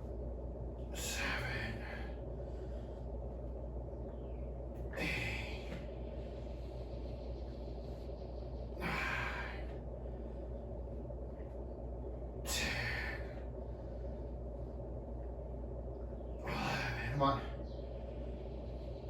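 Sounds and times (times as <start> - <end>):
man breathing heavily: 0.8 - 19.0.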